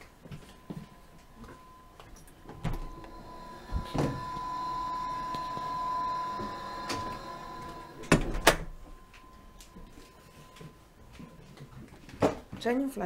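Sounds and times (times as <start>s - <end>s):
steady thin high whine: 0.5s - 11.2s.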